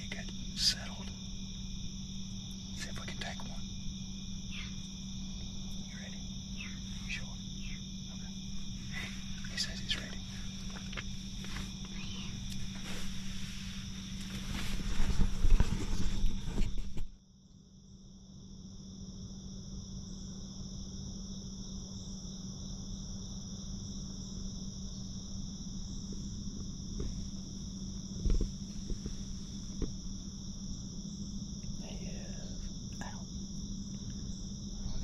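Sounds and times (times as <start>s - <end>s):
crickets and night insects chirping: 0.0s - 35.0s
low steady hum: 0.0s - 35.0s.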